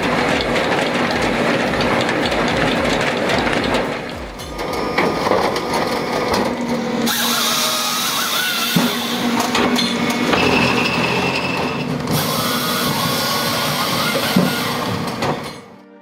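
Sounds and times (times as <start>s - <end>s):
power saw cutting wood: 0.0s - 15.7s.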